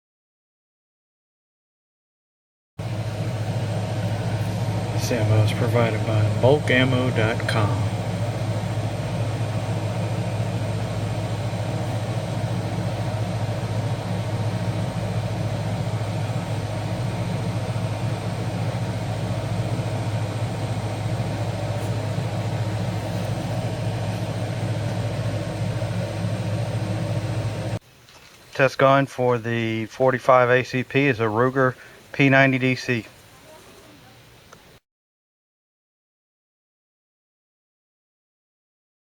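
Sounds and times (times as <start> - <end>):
low mechanical hum: 2.8 - 34.8.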